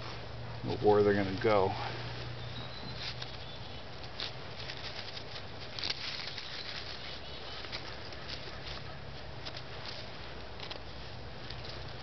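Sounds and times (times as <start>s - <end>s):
dry leaves crackling: 0.0s - 12.0s.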